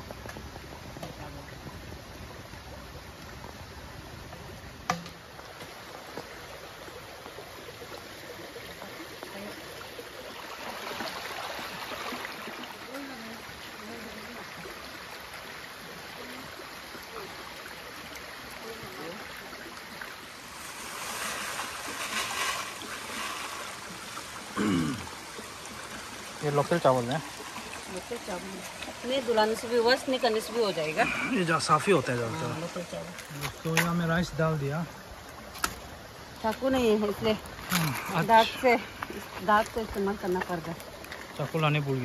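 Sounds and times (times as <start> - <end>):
stream flowing: 0.0 - 42.0.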